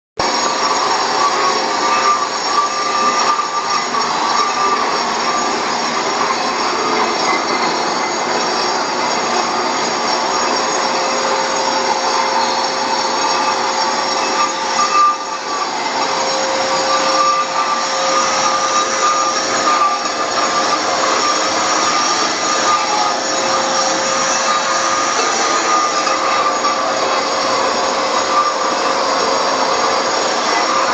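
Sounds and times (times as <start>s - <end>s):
concrete grinder grinding: 0.2s - 30.9s
dust extraction vacuum whine: 0.2s - 30.9s.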